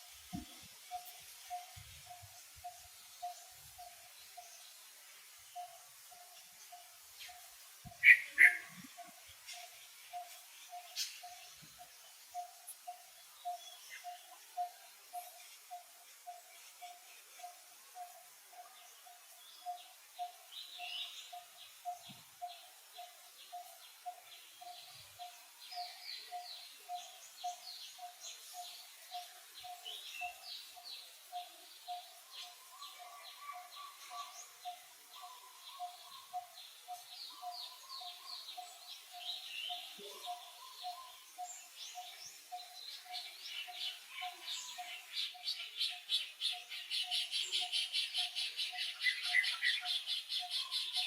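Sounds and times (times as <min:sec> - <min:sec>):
birds chirping and trilling: 0:00.3 - 0:51.0.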